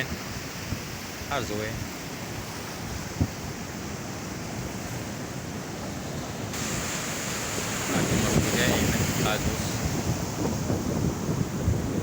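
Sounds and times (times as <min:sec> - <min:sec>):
sea waves washing on shore: 0:00.0 - 0:12.0
wind rumbling on microphone: 0:00.0 - 0:12.0.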